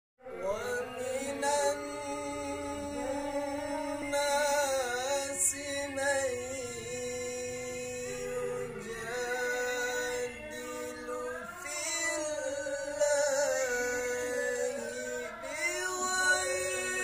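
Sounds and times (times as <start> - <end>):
man chanting solo: 0.2 - 17.0.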